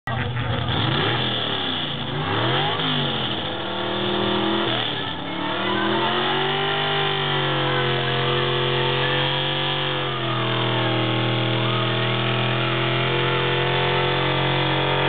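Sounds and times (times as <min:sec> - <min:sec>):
truck engine revving hard: 0:00.1 - 0:15.0.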